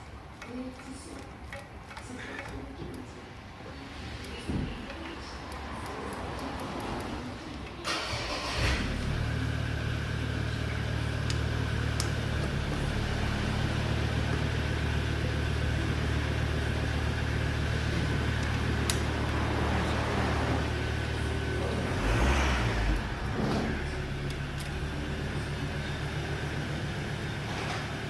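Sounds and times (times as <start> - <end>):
engine humming: 4.0 - 28.0.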